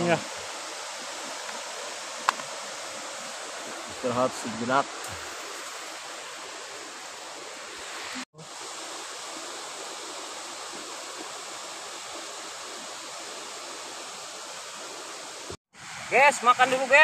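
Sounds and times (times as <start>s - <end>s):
distant waterfall rushing: 0.0s - 17.0s.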